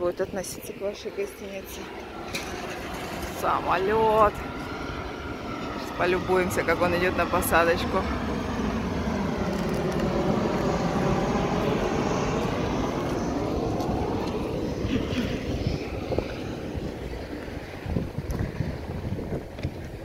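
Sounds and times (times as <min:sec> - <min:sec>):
jet engine roar and whine: 0:00.0 - 0:20.0.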